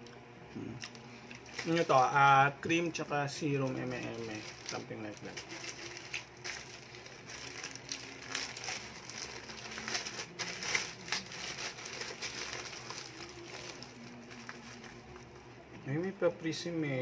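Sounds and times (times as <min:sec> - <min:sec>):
plastic pouch and bubble wrap crinkling: 0:00.8 - 0:16.2.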